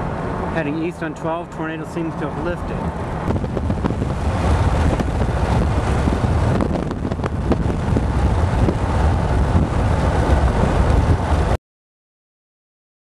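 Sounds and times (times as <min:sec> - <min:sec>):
road and wind noise in car: 0:00.0 - 0:11.6.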